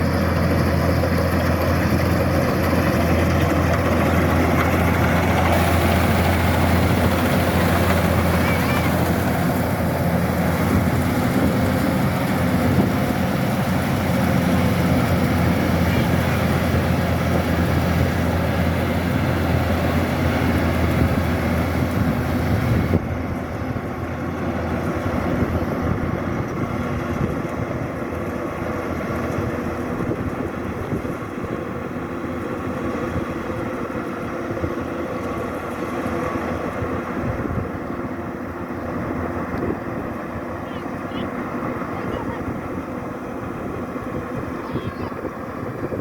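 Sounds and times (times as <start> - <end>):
combine harvester engine hum: 0.0 - 46.0.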